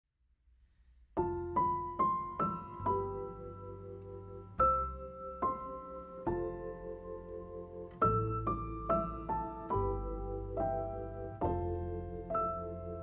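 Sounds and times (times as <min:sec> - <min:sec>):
slow piano melody: 0:01.1 - 0:13.0.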